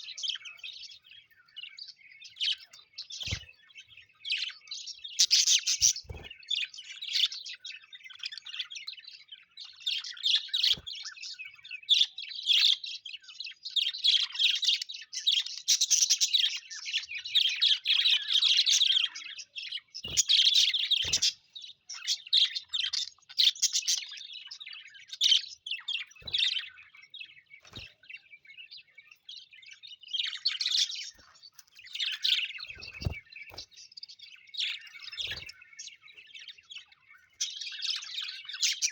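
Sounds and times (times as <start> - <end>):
parrots chattering and chirping: 0.0 - 12.8, 14.1 - 38.9.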